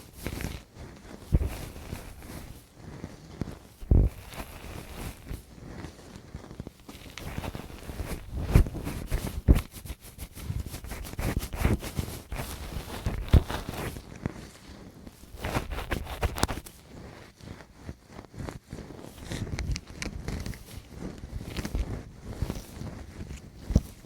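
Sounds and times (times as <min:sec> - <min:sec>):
tool scratching microphone: 0:00.0 - 0:14.4, 0:15.2 - 0:24.0.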